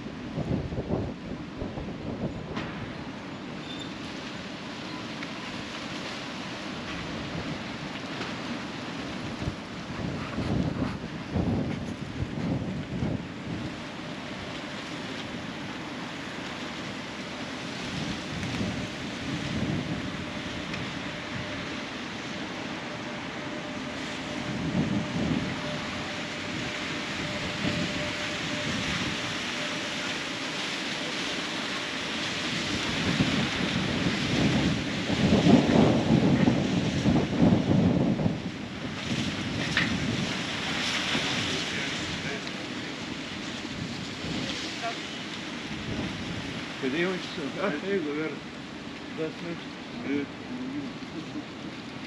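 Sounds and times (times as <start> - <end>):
wind buffeting microphone: 0.0 - 3.2, 6.8 - 48.3.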